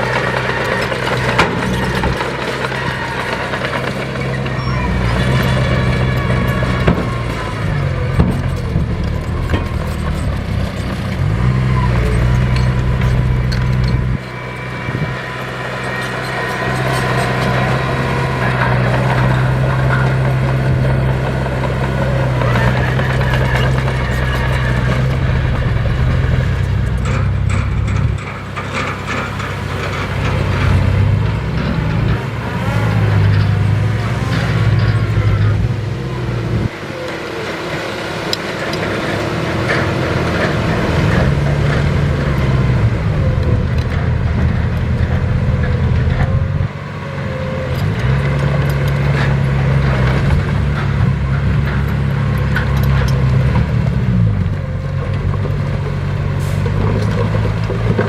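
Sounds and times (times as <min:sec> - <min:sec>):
heavy diesel engine under load: 0:00.0 - 0:58.0.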